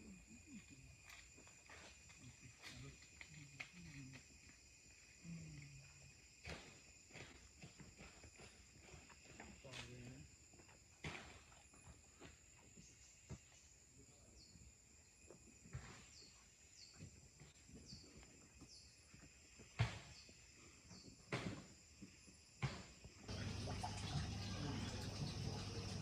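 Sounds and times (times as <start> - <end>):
high insect whine: 0.0 - 26.0.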